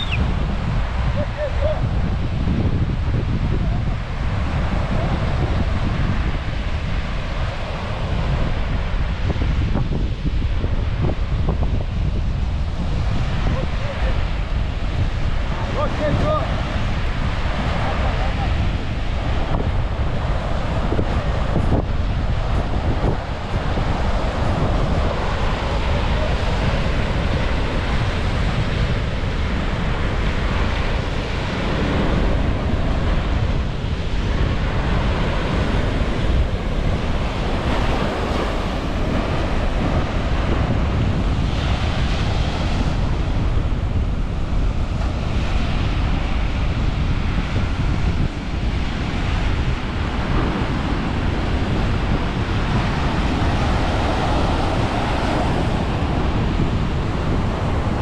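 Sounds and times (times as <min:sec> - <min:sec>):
ocean surf breaking on beach: 0:00.0 - 0:58.0
wind buffeting microphone: 0:00.0 - 0:58.0.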